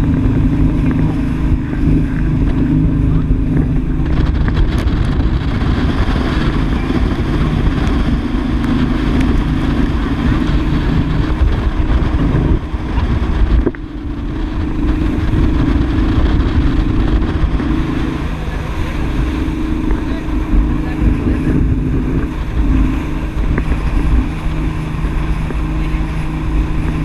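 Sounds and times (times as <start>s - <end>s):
rushing water and spray: 0.0s - 27.0s
speedboat engine running hard: 0.0s - 27.0s
wind on microphone: 0.0s - 27.0s.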